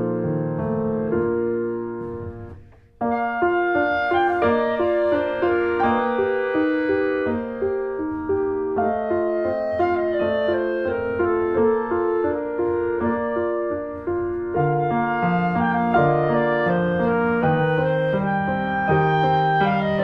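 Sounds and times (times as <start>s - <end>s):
instrumental music with held notes: 0.0s - 20.0s.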